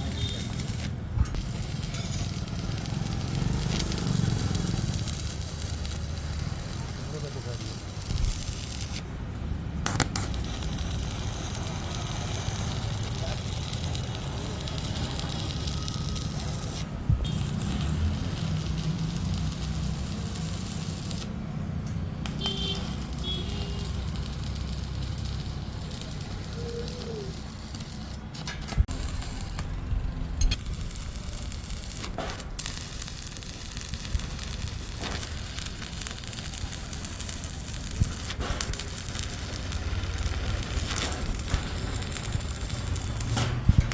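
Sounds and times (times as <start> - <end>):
welding arc crackling hiss: 0.0 - 43.9.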